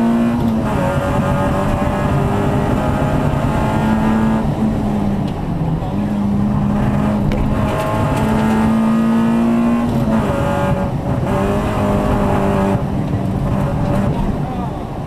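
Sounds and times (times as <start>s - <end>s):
rally car engine running hard: 0.0s - 15.0s.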